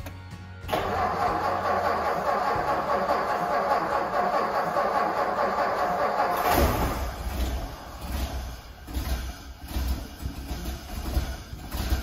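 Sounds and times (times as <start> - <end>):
car engine cold start pulsing: 0.7 - 12.0.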